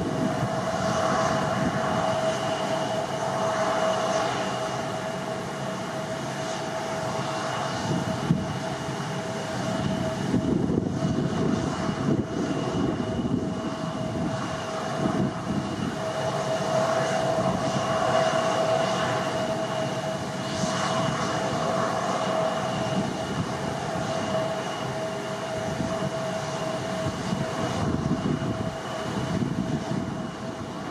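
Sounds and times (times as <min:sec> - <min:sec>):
wind rumble on microphone: 0:00.0 - 0:04.4, 0:06.4 - 0:30.9
jet engines roaring: 0:00.0 - 0:30.9.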